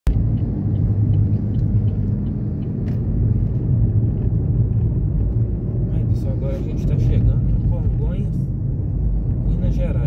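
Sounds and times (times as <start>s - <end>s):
road noise: 0.0s - 10.0s
car engine hum: 0.1s - 10.0s.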